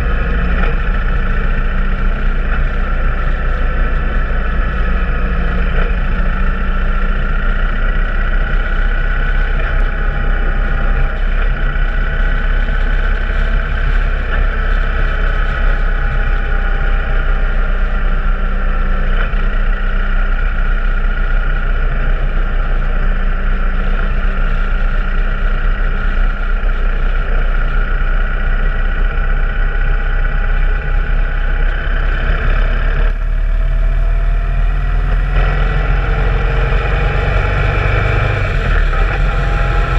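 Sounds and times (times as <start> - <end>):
motorcycle engine cruising: 0.0 - 39.9
road and wind noise: 0.0 - 39.9.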